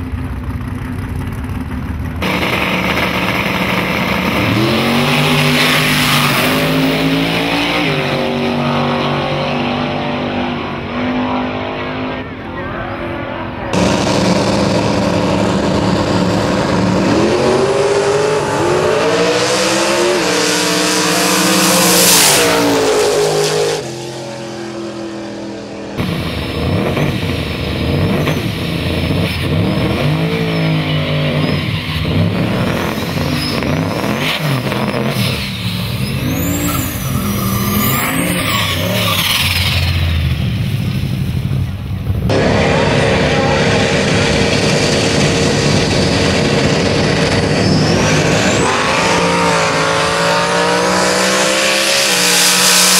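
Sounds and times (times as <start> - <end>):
truck engines revving: 0.0 - 52.9.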